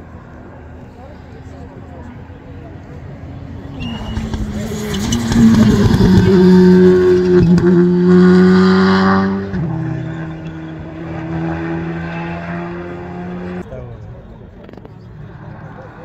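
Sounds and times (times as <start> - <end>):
rally car passing at full throttle: 0.1 - 13.7.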